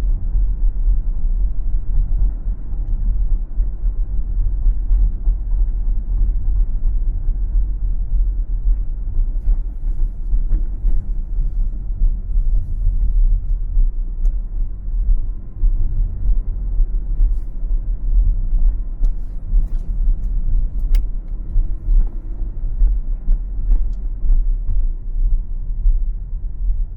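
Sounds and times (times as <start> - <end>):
car engine and tyres rumbling: 0.0 - 26.9.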